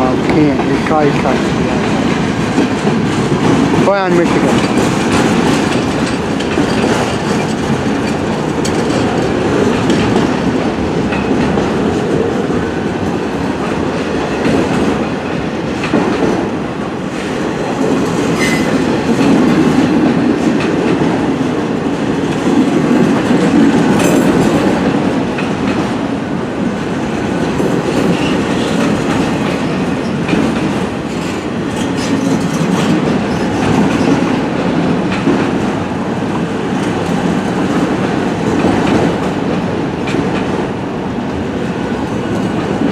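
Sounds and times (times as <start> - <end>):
freight train rumbling past: 0.0 - 42.9
wheels clacking over rail joints: 0.1 - 40.8.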